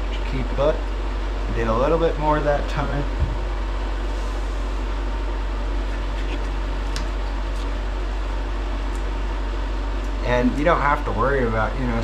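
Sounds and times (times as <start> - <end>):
fan whooshing hum: 0.0 - 12.0.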